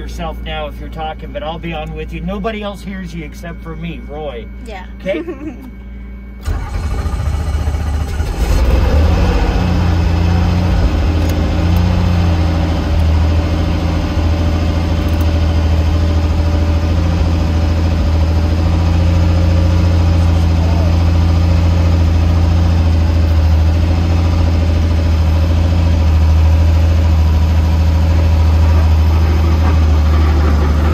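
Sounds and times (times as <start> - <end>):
helicopter engine running: 3.5 - 30.9.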